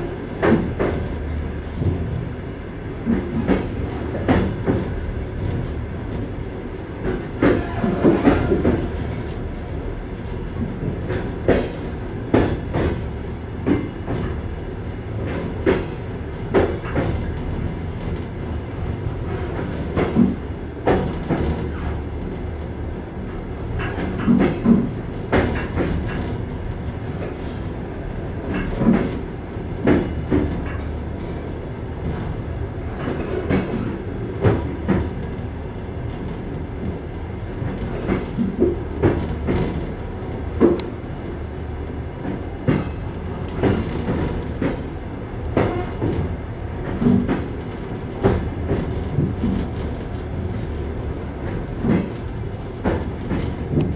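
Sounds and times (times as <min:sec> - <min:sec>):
steady train rumble: 0:00.0 - 0:53.9
train wheels clickety-clack: 0:00.0 - 0:53.9.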